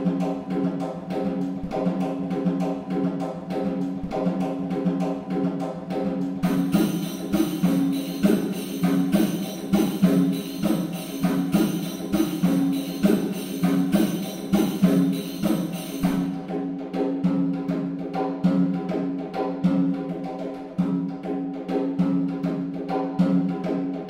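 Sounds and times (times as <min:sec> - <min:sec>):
quick regular percussion: 0:00.0 - 0:24.0.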